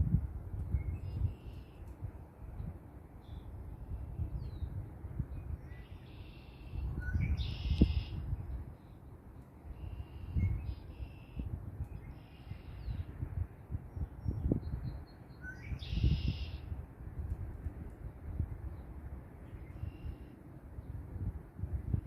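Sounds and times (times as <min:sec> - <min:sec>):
wind on microphone: 0:00.0 - 0:02.8, 0:03.5 - 0:05.8, 0:06.7 - 0:08.8, 0:09.8 - 0:15.0, 0:15.6 - 0:20.1, 0:20.8 - 0:22.0.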